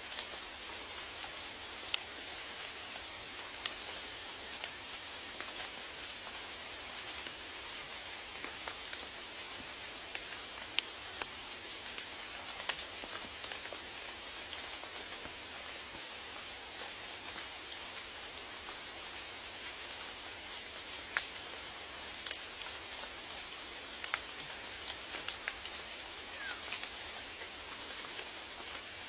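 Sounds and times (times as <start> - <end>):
raindrops ticking on surface: 0.0 - 29.0
steady rain hiss: 0.0 - 29.0.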